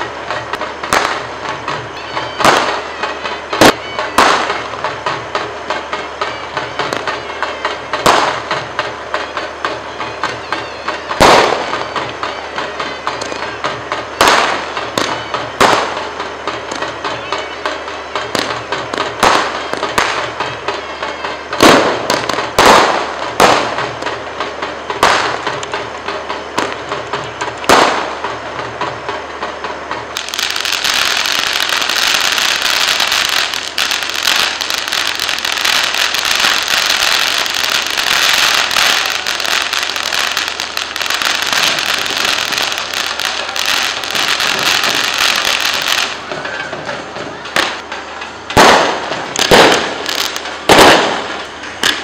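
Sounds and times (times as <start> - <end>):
firecrackers crackling: 0.0 - 52.0
fireworks sharp bangs: 0.0 - 52.0.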